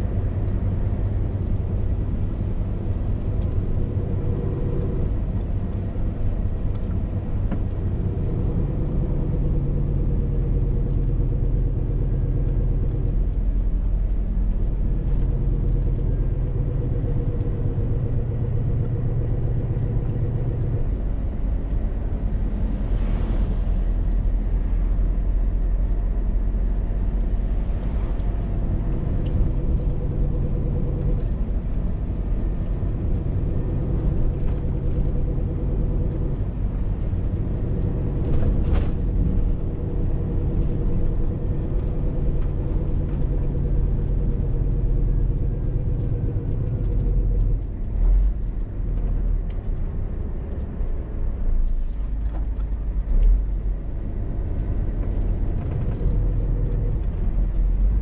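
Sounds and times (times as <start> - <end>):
diesel lorry engine drone: 0.0 - 58.0
road rumble: 0.0 - 58.0.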